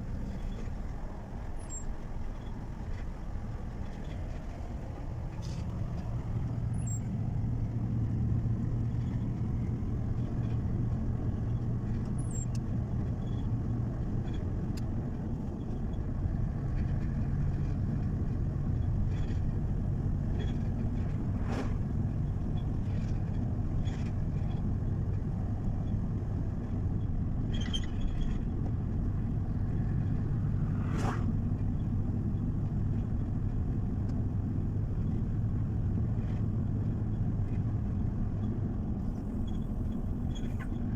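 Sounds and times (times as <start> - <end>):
road noise: 0.0 - 40.9
truck engine drone: 0.0 - 40.9.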